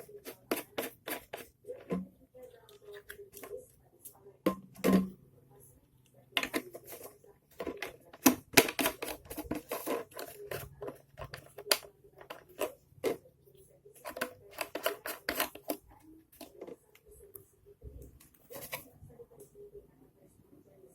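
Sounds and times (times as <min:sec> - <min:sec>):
plastic bottle and packaging handled: 0:00.0 - 0:05.1, 0:06.3 - 0:13.3, 0:13.9 - 0:17.4, 0:18.0 - 0:19.2.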